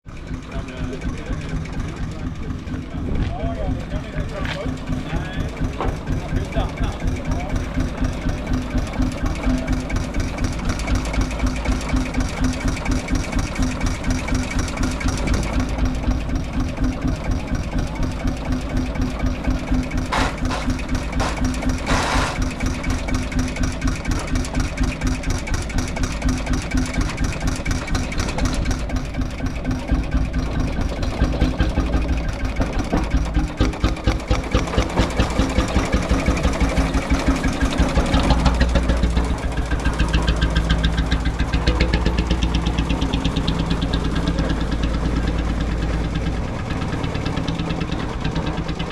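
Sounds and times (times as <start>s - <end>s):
single-cylinder engine running: 0.0s - 48.9s.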